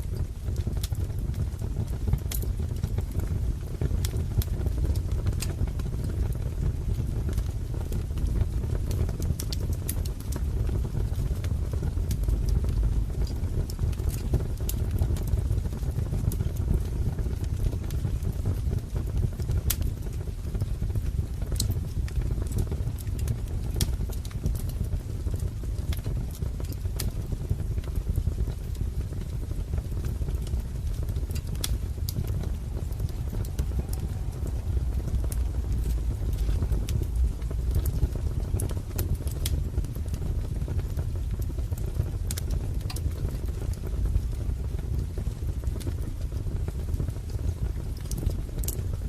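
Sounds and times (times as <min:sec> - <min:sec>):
low rumble of burning logs: 0:00.0 - 0:49.0
wood fire crackling: 0:00.0 - 0:49.0.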